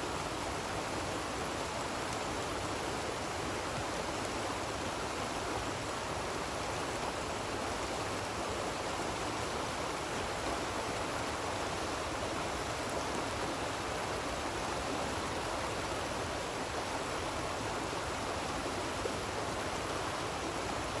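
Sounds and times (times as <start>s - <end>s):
creek rushing over rocks: 0.0s - 21.0s.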